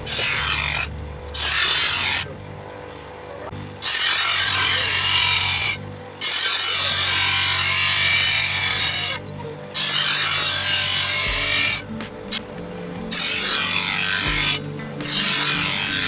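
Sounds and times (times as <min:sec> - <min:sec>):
blade being ground on grinder: 0:00.0 - 0:16.0
grinder motor humming: 0:00.0 - 0:16.0.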